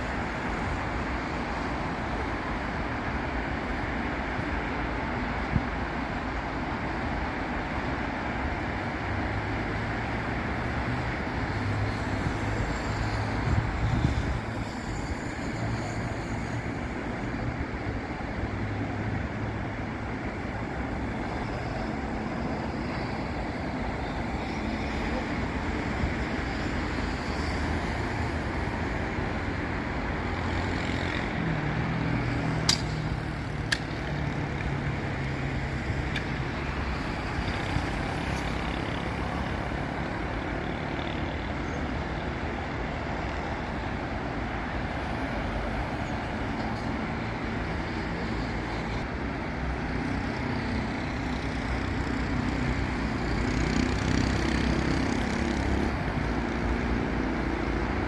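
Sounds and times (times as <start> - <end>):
busy road traffic: 0.0 - 58.0
heavy vehicles passing: 0.0 - 58.0.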